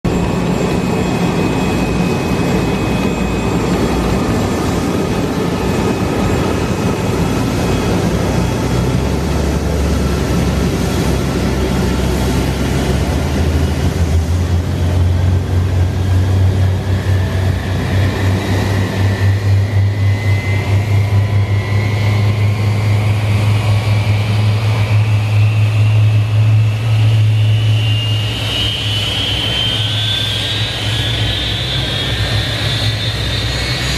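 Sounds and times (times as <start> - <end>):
heavy low drone: 0.0 - 33.9
jet whine and rushing: 0.0 - 33.9
turbine whine rising in pitch: 0.0 - 33.9.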